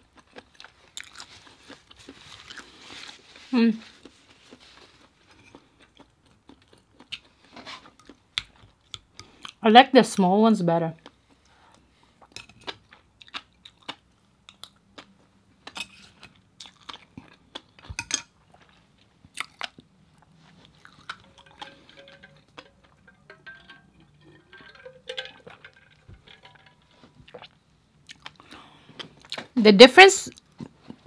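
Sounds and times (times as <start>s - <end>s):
person chewing: 0.0s - 9.6s, 11.0s - 29.5s.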